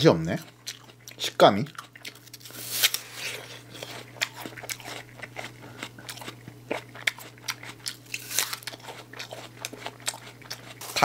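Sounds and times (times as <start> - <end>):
apple crunching: 0.0 - 11.0.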